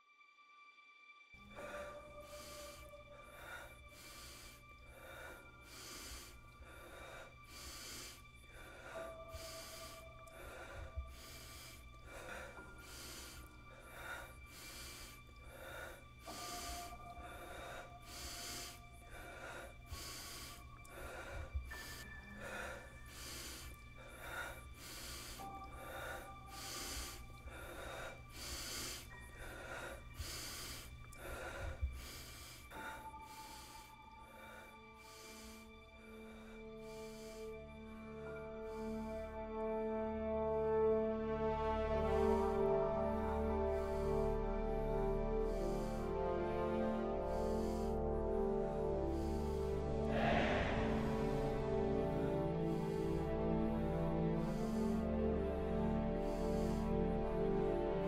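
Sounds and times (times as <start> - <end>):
faint background music: 0.0 - 58.0
rapid heavy breathing: 1.4 - 40.0, 42.0 - 58.0.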